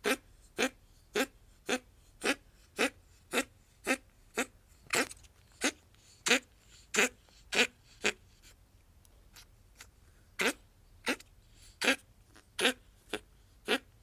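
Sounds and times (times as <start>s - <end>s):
ferret coughing: 0.0s - 8.2s, 10.4s - 13.9s.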